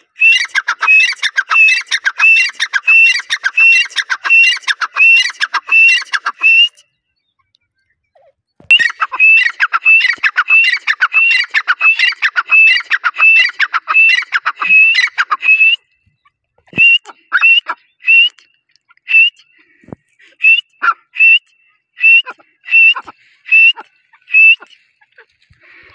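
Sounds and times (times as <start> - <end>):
bird whistled calls: 0.0 - 7.1, 8.6 - 24.9.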